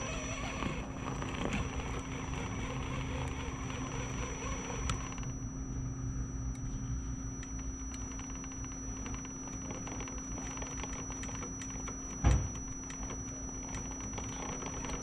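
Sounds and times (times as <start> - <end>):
rc truck motor whining: 0.0 - 5.5, 7.9 - 15.0.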